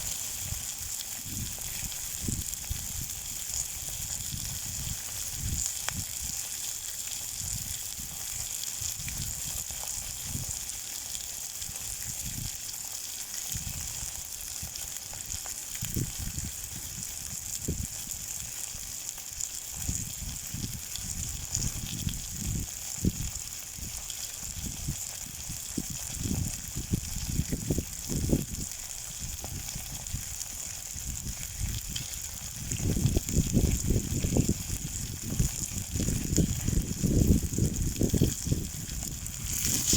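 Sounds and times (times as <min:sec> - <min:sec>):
chicken sizzling in a frying pan: 0:00.0 - 0:39.9.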